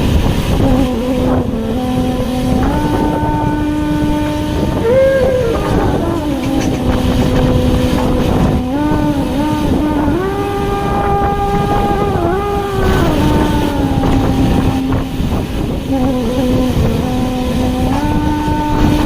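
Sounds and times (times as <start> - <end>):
motor engine revving: 0.0 - 19.0.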